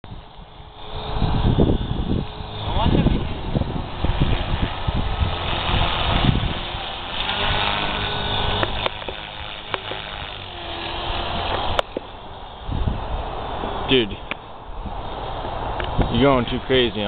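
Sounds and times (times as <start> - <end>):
model helicopter rotor noise: 0.1 - 17.0.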